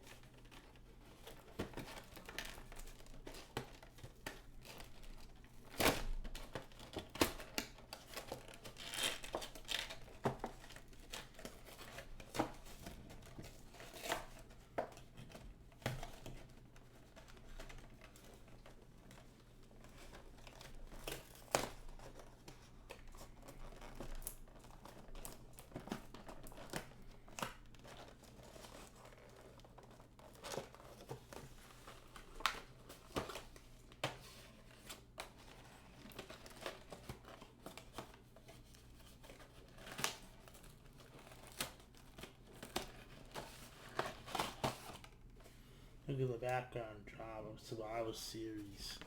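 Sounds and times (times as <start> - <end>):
cardboard and plastic crinkling: 0.0 - 45.8.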